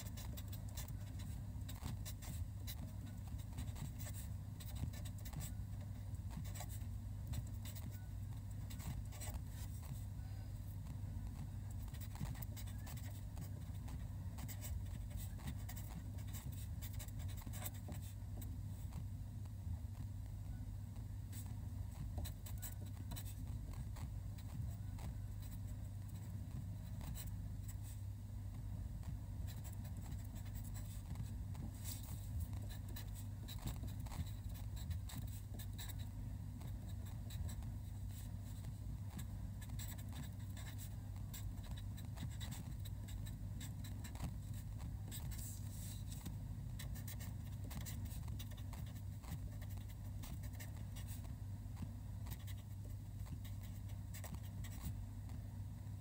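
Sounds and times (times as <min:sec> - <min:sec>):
marker pen scratching paper: 0:00.0 - 0:10.0, 0:11.2 - 0:19.1, 0:21.3 - 0:28.0, 0:29.0 - 0:55.0
steady low hum: 0:00.0 - 0:56.0.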